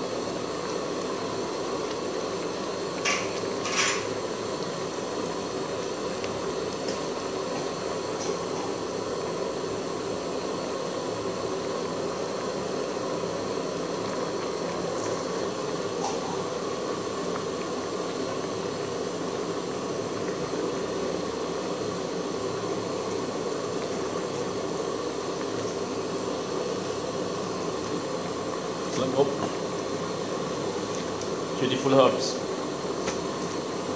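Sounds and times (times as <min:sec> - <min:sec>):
soup boiling in a pot: 0:00.0 - 0:33.9.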